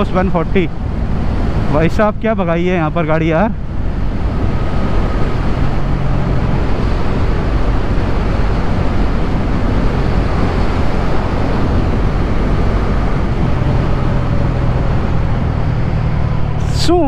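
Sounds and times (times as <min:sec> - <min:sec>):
wind rush: 0:00.0 - 0:17.0.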